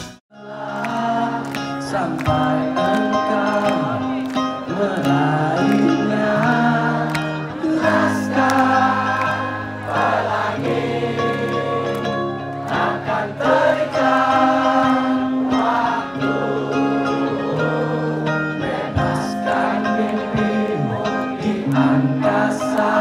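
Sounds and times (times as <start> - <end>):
bass guitar: 0.0 - 23.0
electric guitar: 0.0 - 23.0
people singing together: 0.4 - 23.0.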